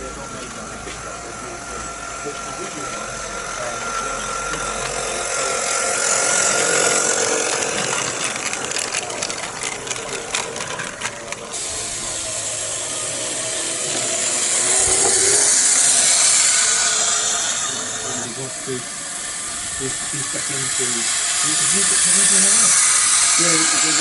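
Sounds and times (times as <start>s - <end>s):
steam locomotive hissing exhaust: 0.0s - 24.0s.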